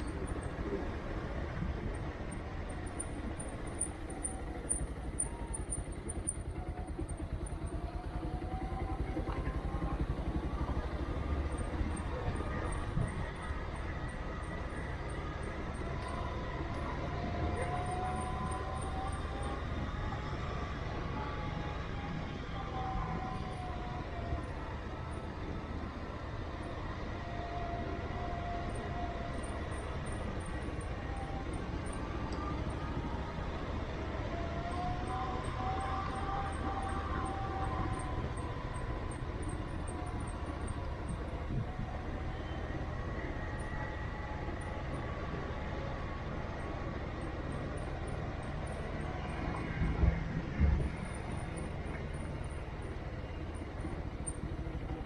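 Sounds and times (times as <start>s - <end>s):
faint whine: 0.0s - 55.0s
motor vehicle rumbling on road: 0.0s - 55.0s.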